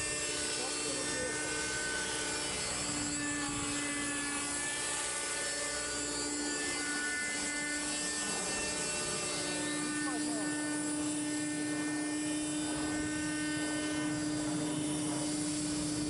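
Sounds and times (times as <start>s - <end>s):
model helicopter engine and rotors: 0.0s - 16.0s.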